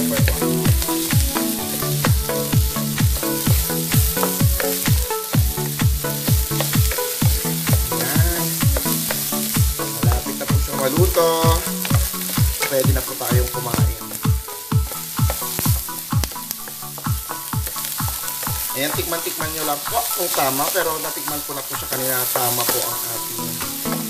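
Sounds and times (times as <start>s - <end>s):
egg sizzling in a frying pan: 0.0s - 24.0s
music with steady drum beat: 0.0s - 24.0s
wooden spatula scraping a pan: 0.0s - 24.0s.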